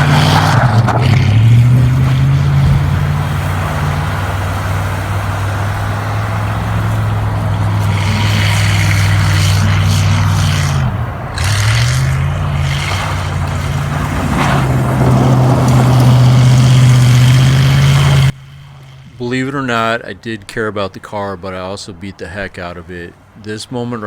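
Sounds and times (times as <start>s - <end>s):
car engine under hard throttle: 0.0s - 22.5s.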